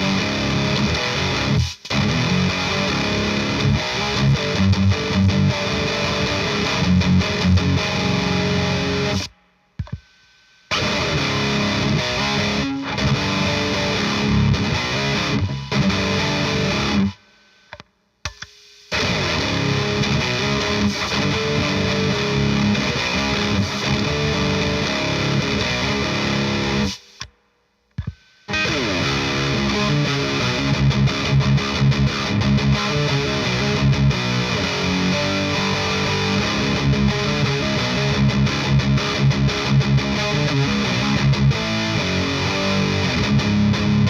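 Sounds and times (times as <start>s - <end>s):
overdriven electric guitar: 0.0s - 10.1s, 10.7s - 27.3s, 28.0s - 44.0s.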